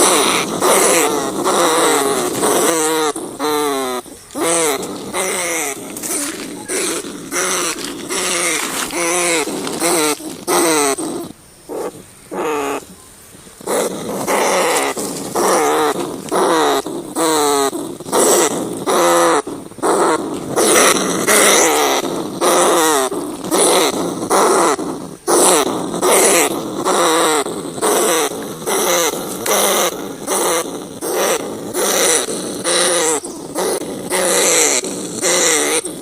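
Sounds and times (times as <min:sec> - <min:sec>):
rats squealing: 0:00.0 - 0:13.0, 0:13.6 - 0:36.0.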